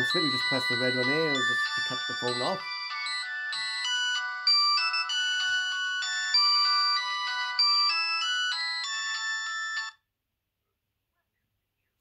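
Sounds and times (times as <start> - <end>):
mobile phone ringtone: 0.0 - 10.0.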